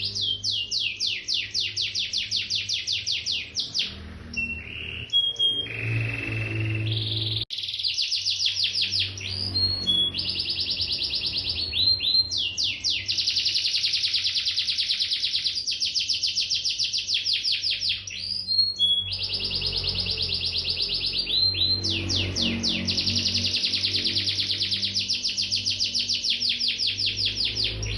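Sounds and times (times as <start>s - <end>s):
canary singing: 0.0s - 27.9s.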